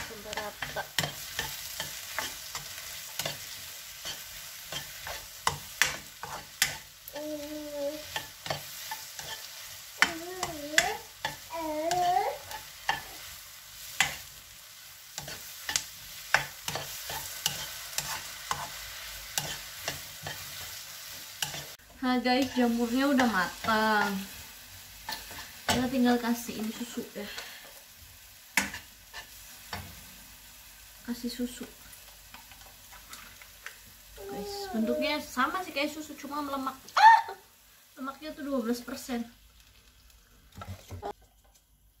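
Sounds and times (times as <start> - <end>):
vegetables sizzling in a wok: 0.0 - 42.0.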